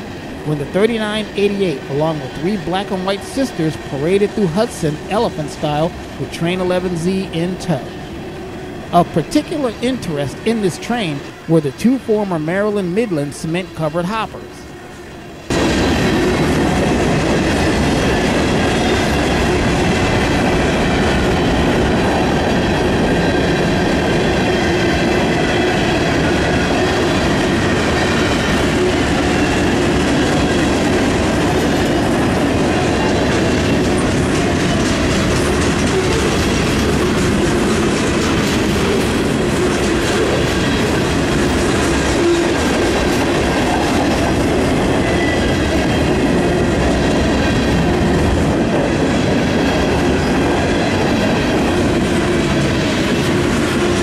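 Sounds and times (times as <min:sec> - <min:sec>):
train wheels rumbling on rail: 0:00.0 - 0:11.5, 0:14.6 - 0:54.0.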